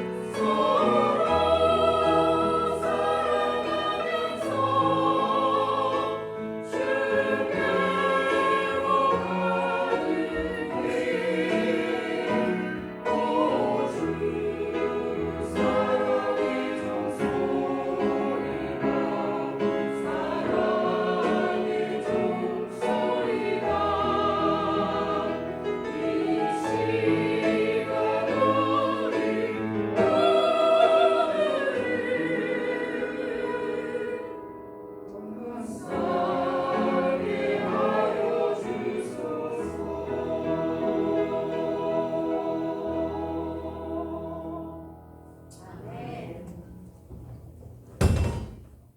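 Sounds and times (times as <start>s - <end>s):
church choir singing: 0.0s - 47.2s.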